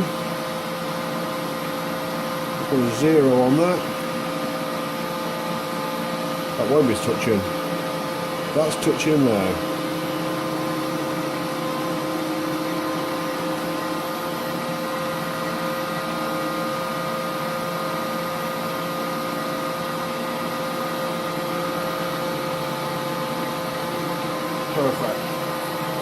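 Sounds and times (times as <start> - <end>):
lathe humming: 0.0 - 26.0.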